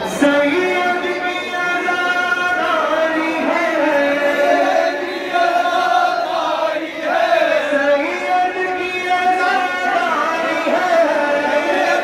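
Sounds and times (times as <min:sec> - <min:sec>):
men chanting a mourning lament: 0:00.0 - 0:12.0.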